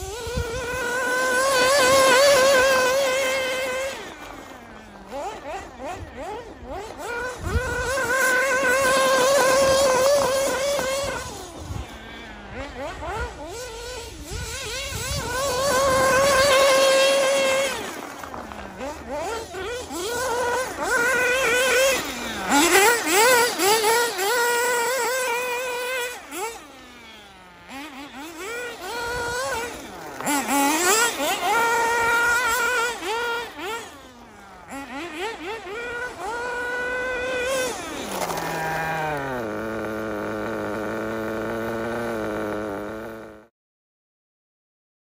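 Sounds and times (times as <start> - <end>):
model car engine revving: 0.0 - 43.5.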